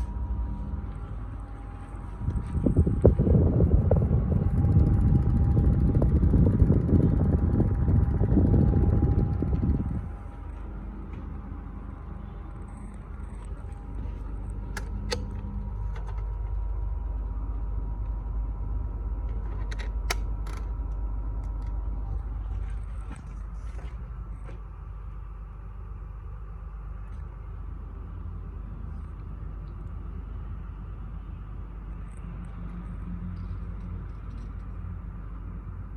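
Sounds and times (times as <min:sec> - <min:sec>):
air conditioner low rumble: 0:00.0 - 0:35.9.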